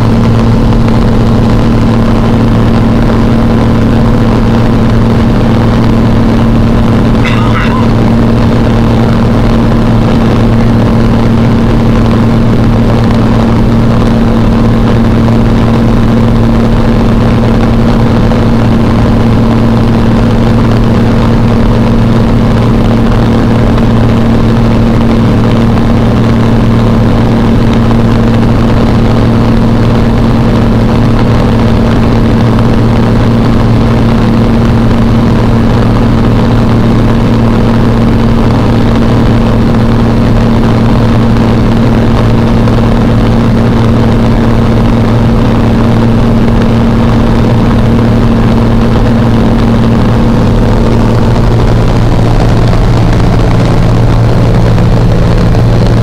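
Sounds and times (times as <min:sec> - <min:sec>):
propeller airplane engine droning: 0:00.0 - 0:56.0.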